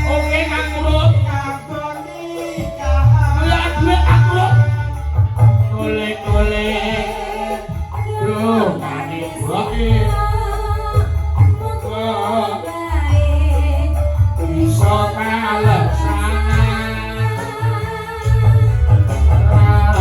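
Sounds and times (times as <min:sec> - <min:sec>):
live band music: 0:00.0 - 0:20.0
person singing: 0:00.0 - 0:20.0
steady bass line: 0:00.0 - 0:20.0.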